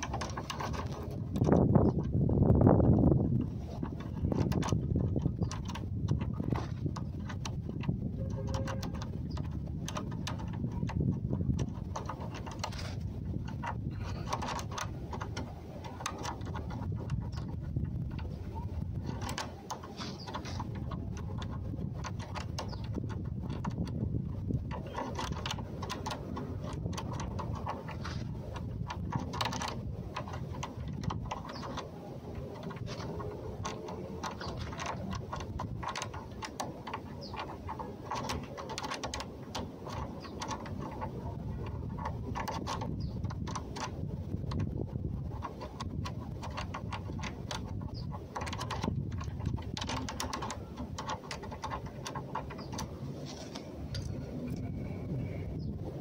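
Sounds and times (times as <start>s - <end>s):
lock pick clicking in lock: 3.7s - 54.7s.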